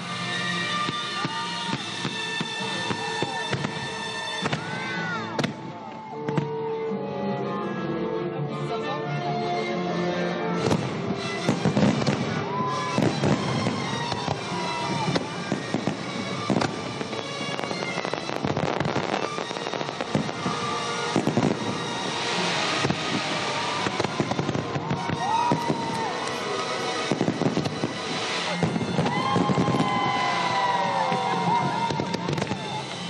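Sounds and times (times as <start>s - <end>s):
fireworks whistling: 0.0s - 6.5s, 10.6s - 33.0s
fireworks bursting with crackling bangs: 0.0s - 6.6s, 10.6s - 33.0s.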